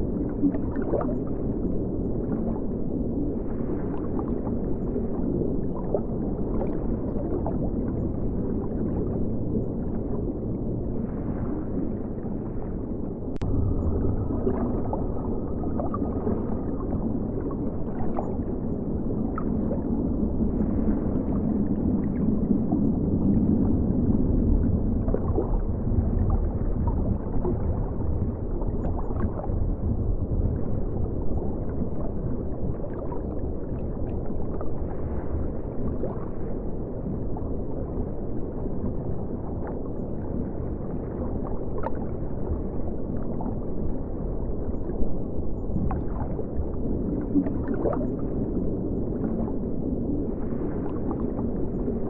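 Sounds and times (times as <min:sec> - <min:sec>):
underwater river rumble and gurgle: 0:00.0 - 0:52.0.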